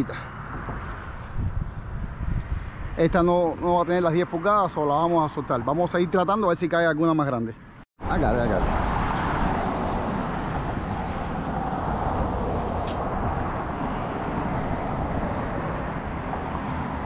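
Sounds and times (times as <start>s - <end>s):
road traffic rumbling: 0.0s - 6.8s, 7.5s - 17.0s.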